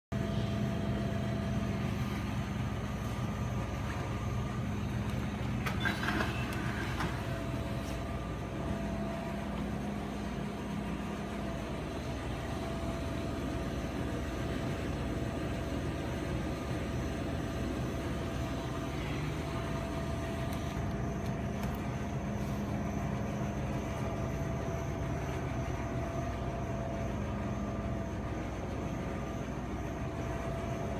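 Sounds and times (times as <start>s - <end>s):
machine hum with steady tones: 0.1s - 30.9s.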